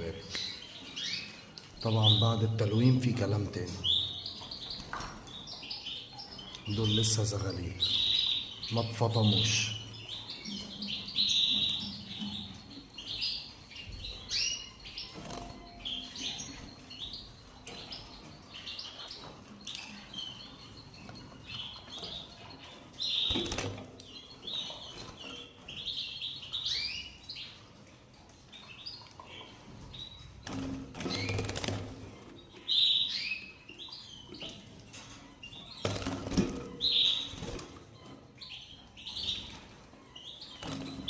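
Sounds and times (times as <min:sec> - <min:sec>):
young canaries chirping: 0:00.0 - 0:41.0.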